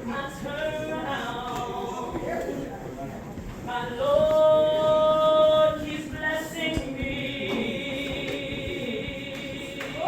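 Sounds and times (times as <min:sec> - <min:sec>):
woman singing gospel: 0:00.0 - 0:02.6, 0:03.7 - 0:10.0.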